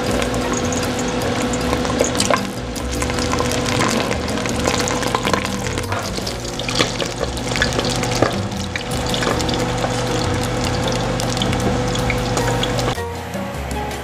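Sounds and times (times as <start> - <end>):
meat sizzling in hot oil: 0.0 - 13.0
oil popping and crackling: 0.0 - 13.0
background music: 0.0 - 14.0.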